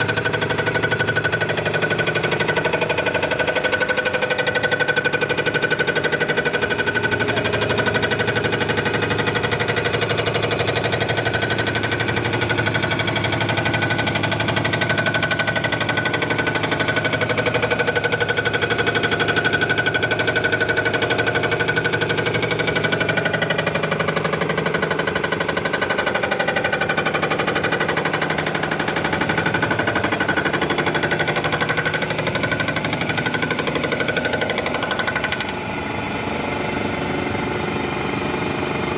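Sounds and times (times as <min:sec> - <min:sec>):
machinery rattling: 0:00.0 - 0:38.9
machinery whine: 0:00.0 - 0:38.9.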